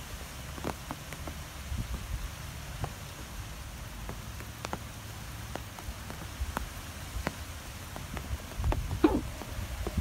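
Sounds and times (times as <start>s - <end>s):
low rumble and hiss: 0.0s - 10.0s
raindrops ticking on hard surface: 0.0s - 10.0s.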